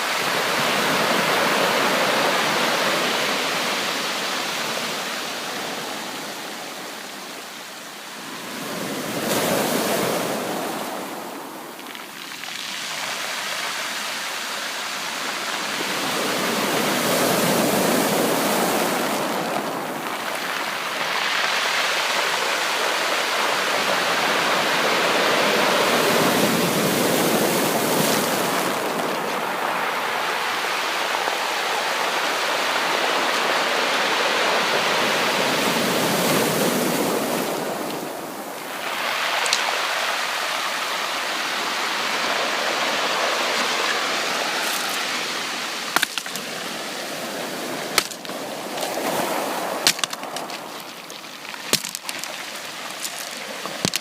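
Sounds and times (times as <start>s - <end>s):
sea waves surf: 0.0s - 54.0s.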